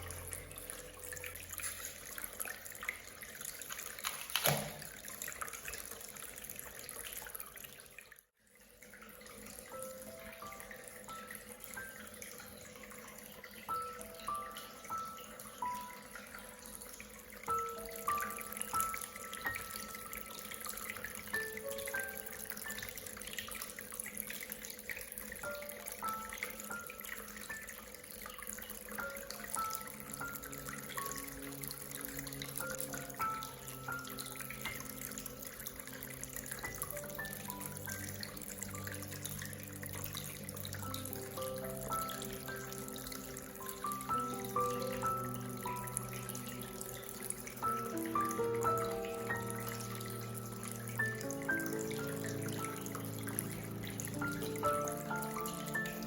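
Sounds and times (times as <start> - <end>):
soft melody of held notes: 0.0 - 3.2, 9.3 - 56.0
water dripping: 0.0 - 56.0
water trickling and splashing: 0.0 - 56.0.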